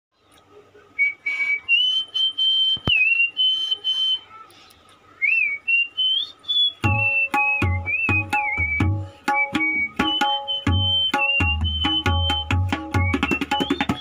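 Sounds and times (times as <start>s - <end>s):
person whistling a melody: 1.0s - 4.4s, 5.2s - 14.0s.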